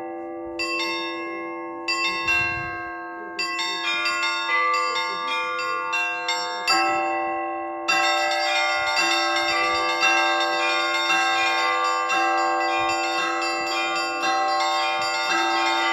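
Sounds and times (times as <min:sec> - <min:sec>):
bell strikes: 0:00.0 - 0:15.9
church bells ringing: 0:00.0 - 0:15.9.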